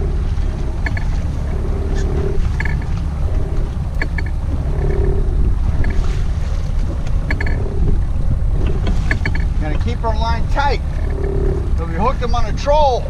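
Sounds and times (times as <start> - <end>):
outboard motor running: 0.0 - 13.0
wind on microphone: 0.0 - 13.0.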